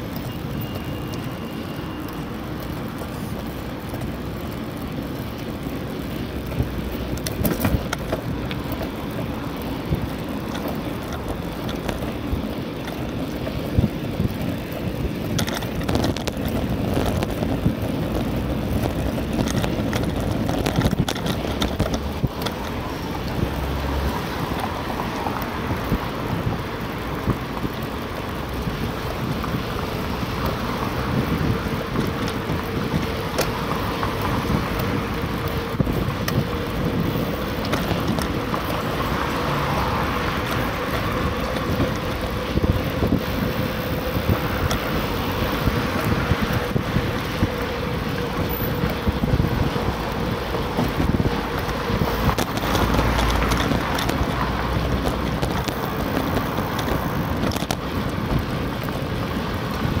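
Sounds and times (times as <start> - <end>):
tyre and road rumble: 0.0 - 60.0
wind rushing over microphone: 2.7 - 60.0.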